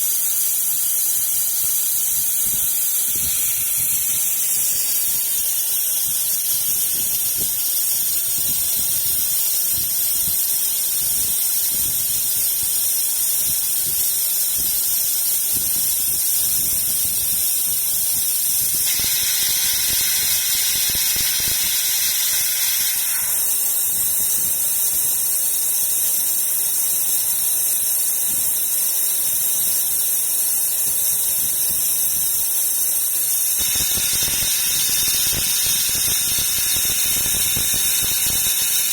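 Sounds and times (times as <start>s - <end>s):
laser drilling machine hiss: 0.0s - 38.9s.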